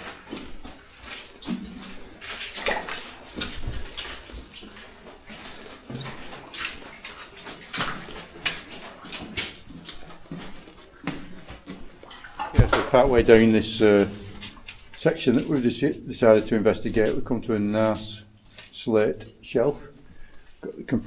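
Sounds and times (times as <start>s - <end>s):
footsteps splashing through water: 0.0s - 21.0s.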